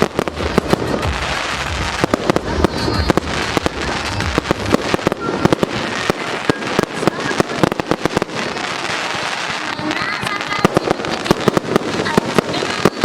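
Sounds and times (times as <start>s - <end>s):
fireworks bangs and cracks: 0.0s - 13.0s
fireworks crackle: 0.0s - 13.0s.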